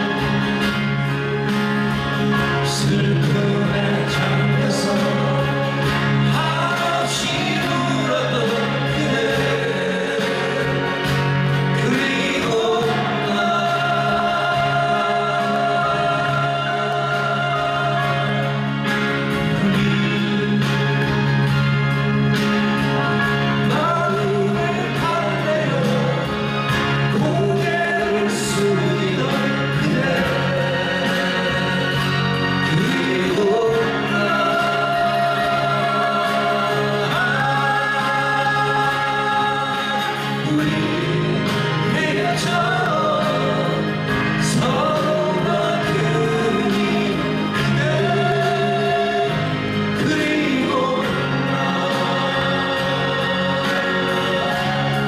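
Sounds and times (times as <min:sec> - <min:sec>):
acoustic guitars strumming: 0:00.0 - 0:55.0
men singing together: 0:02.4 - 0:21.9, 0:22.8 - 0:55.0.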